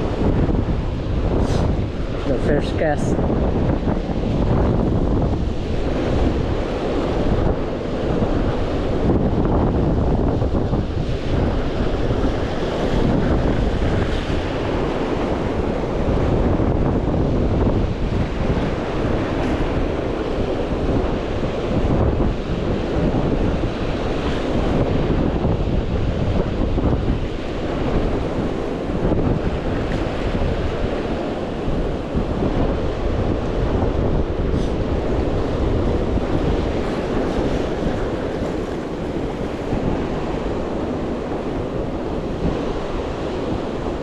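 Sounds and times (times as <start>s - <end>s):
ocean surf against rocks: 0.0s - 44.0s
wind buffeting microphone: 0.0s - 44.0s.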